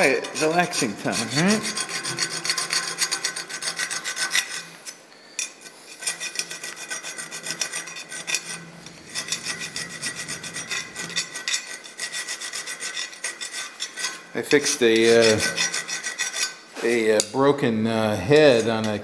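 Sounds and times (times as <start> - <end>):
hand file rasping on metal: 0.0 - 5.0, 5.8 - 16.6.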